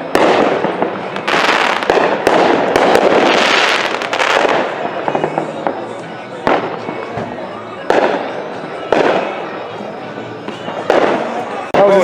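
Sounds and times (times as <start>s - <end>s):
fireworks crackling pops: 0.0s - 9.5s, 10.4s - 12.0s
fireworks bangs: 0.0s - 12.0s.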